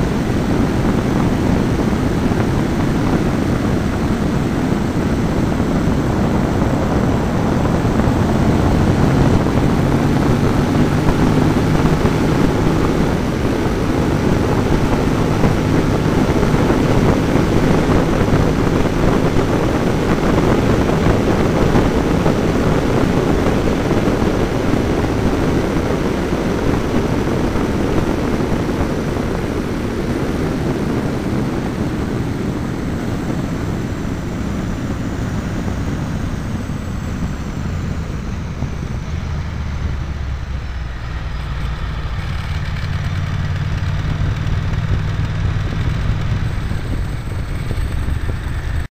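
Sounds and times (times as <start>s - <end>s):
motorcycle engine running: 0.0s - 48.9s
wind and road rush: 0.0s - 48.9s.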